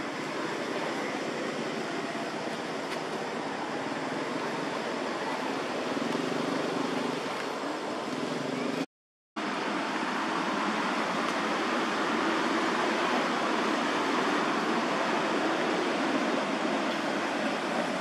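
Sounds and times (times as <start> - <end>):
steady rushing background noise: 0.0 - 18.0.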